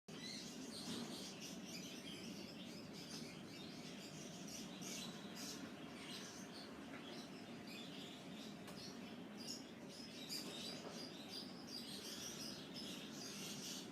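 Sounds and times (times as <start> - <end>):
low background hum: 0.1 - 13.9
small birds chirping: 0.1 - 13.9.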